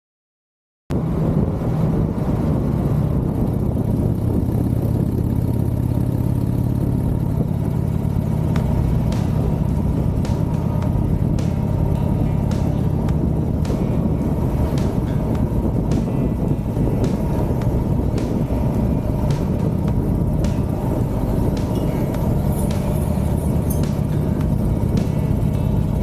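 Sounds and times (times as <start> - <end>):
motorcycle engine running: 1.5 - 26.0.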